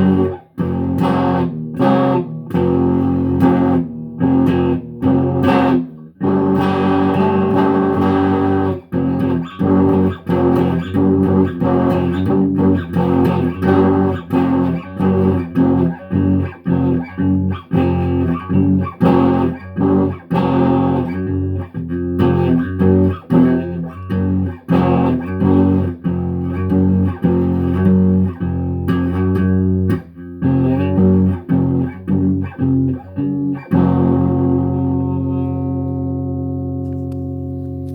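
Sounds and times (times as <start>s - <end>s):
guitar playing choppy chords: 0.0s - 37.9s.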